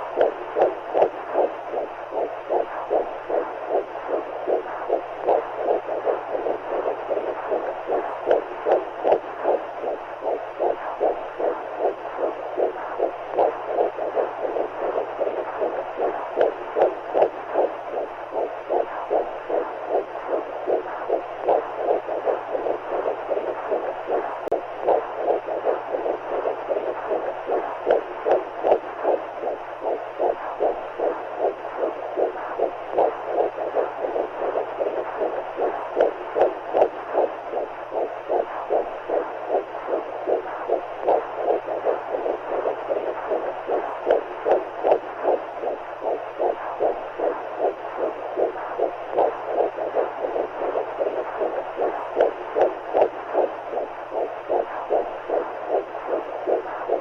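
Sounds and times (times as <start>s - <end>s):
continuous fluid hiss: 0.0s - 57.0s
muffled whooshing heartbeat: 0.0s - 57.0s.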